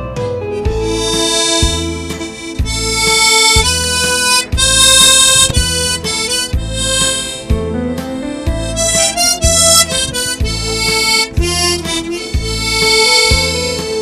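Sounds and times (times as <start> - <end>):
backing track with bass beat: 0.1 - 14.0
harmonica melody: 0.5 - 14.0.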